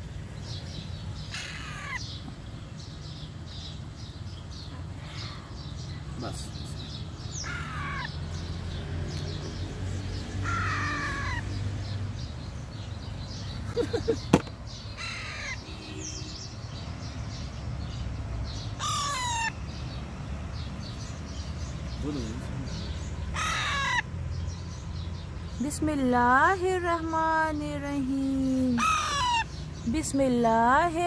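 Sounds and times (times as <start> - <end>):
harsh bird calls: 0.0 - 31.0.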